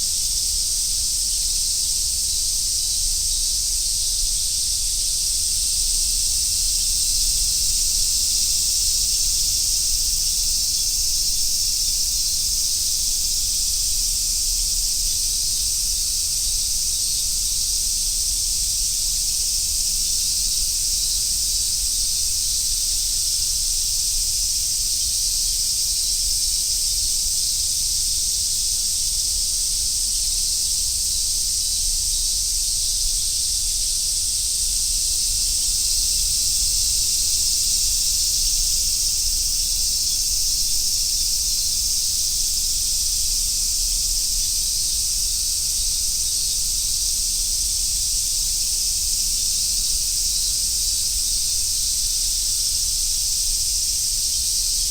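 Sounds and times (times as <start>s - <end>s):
cicada chorus drone: 0.0s - 54.9s.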